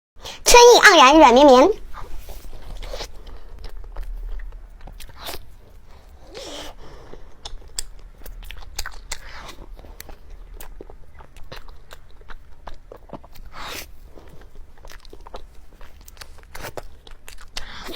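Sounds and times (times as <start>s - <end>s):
person chewing cake: 2.0s - 17.9s.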